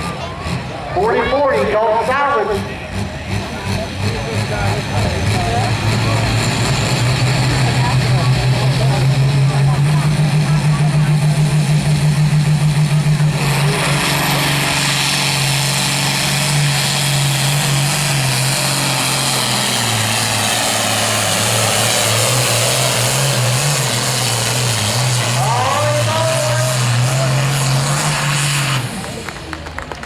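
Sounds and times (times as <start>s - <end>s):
truck engine under hard load: 0.0s - 30.0s.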